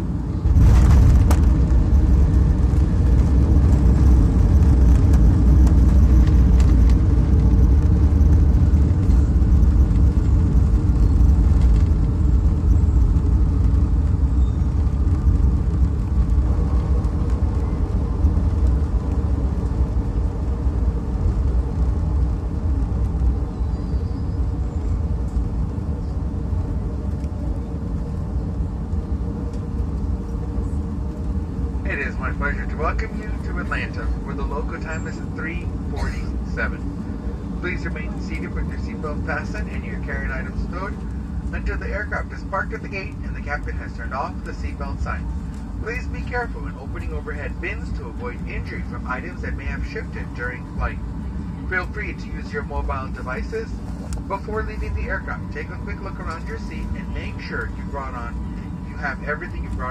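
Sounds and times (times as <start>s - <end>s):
jet engines and wheels rumbling: 0.0s - 59.9s.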